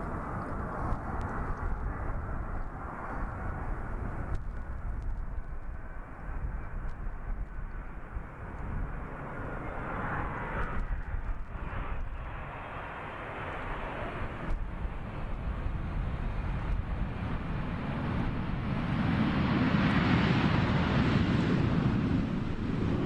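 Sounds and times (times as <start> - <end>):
jet engines rumbling and hissing: 0.0 - 23.0.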